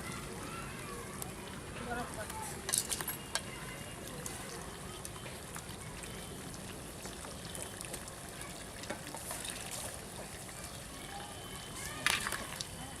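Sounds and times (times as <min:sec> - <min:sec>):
water trickling and pouring: 0:01.0 - 0:13.0.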